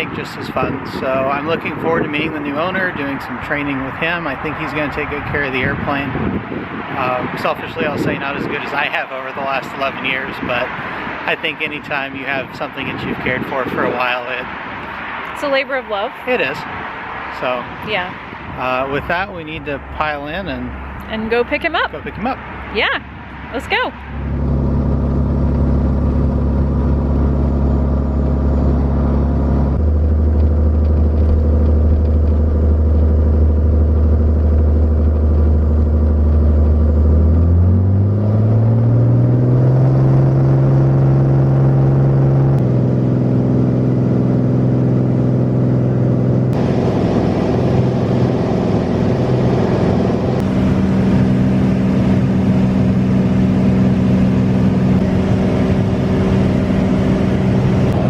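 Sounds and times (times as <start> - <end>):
piston aircraft engine droning: 0.0 - 15.4, 16.2 - 58.0.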